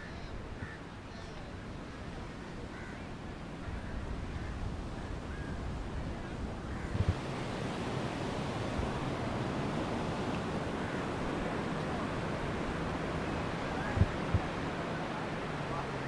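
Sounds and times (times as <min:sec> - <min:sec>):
sea surf washing onto beach: 0:00.0 - 0:16.0.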